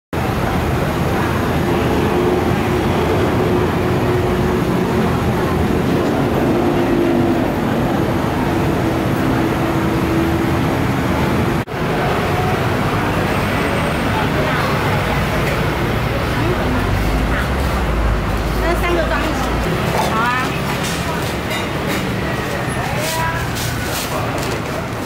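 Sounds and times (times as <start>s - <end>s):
street traffic passing: 0.1s - 25.0s.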